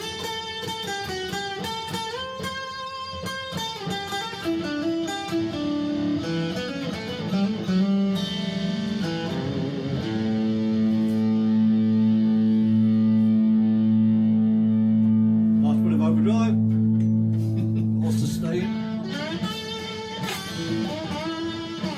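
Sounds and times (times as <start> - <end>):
overdriven electric guitar: 0.0 - 21.9.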